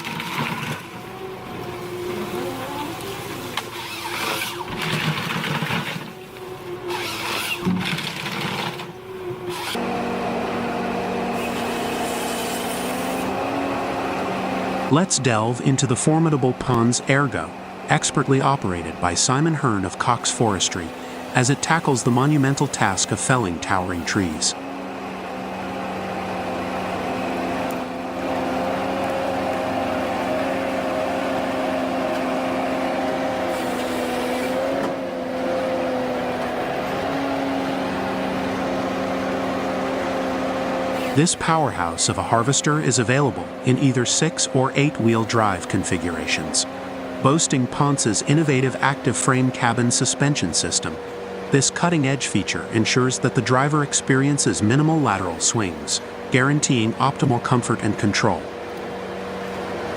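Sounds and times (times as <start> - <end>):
harvester engine running: 0.0 - 59.9.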